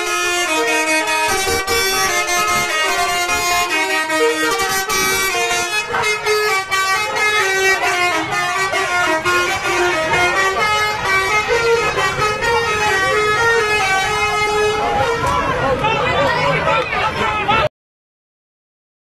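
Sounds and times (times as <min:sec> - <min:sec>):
air horns playing a melody: 0:00.0 - 0:15.6
crowd shouting and cheering: 0:00.5 - 0:17.7.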